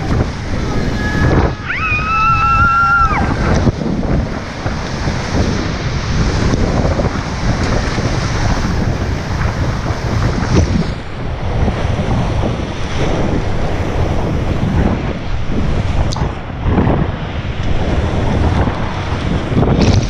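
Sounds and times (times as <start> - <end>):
whitewater rapid roaring: 0.0 - 20.0.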